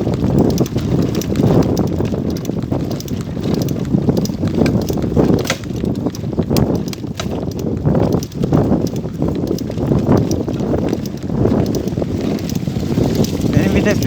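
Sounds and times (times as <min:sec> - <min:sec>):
bicycle rattling on dirt trail: 0:00.0 - 0:14.0
wind buffeting microphone: 0:00.0 - 0:14.0.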